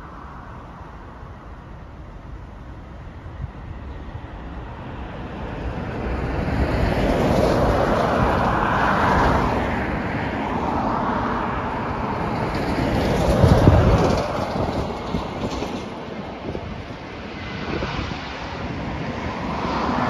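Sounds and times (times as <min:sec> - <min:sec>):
cars passing close by: 0:00.0 - 0:20.0.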